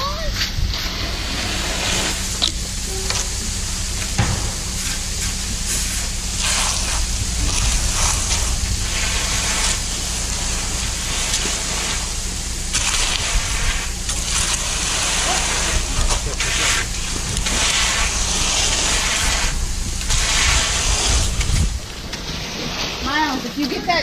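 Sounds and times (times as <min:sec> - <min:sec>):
low engine hum: 0:00.0 - 0:23.5
trowels scraping wet concrete: 0:00.0 - 0:24.0.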